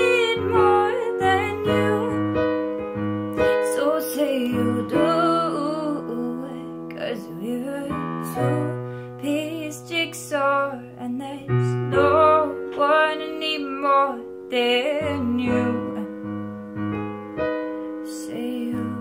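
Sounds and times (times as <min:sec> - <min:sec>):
woman singing pop ballad: 0:00.0 - 0:02.6, 0:03.4 - 0:16.4, 0:18.0 - 0:19.0
sustained keyboard chords: 0:00.0 - 0:19.0.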